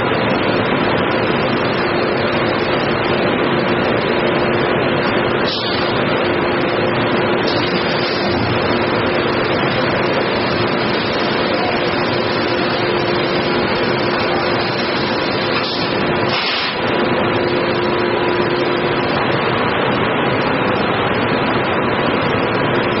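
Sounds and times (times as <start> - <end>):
production line machine noise: 0.0 - 23.0.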